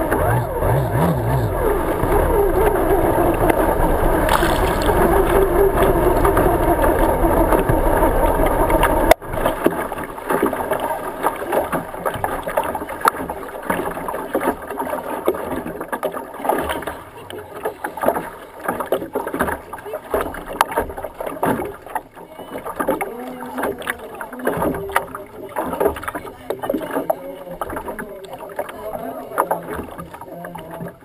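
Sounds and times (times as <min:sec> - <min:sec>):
outboard engine idling: 0:00.0 - 0:31.0
water lapping against hull: 0:00.0 - 0:31.0.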